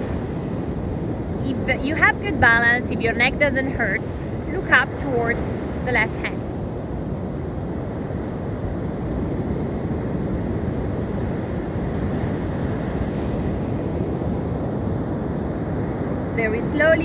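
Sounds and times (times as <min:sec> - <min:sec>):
sea surf: 0:00.0 - 0:17.0
wind rumbling on microphone: 0:00.0 - 0:17.0.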